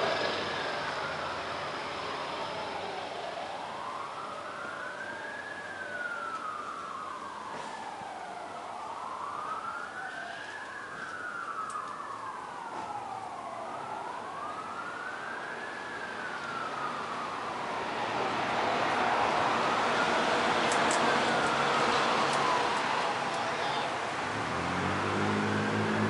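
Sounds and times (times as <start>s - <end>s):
emergency siren wailing: 0.0s - 26.0s
traffic noise: 0.0s - 26.0s.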